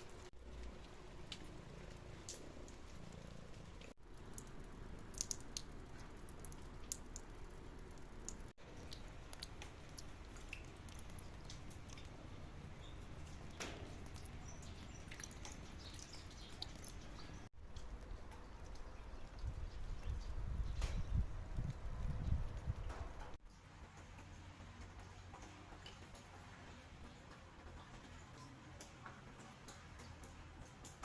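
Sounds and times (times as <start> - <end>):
raindrops ticking and dripping: 0.0 - 31.0.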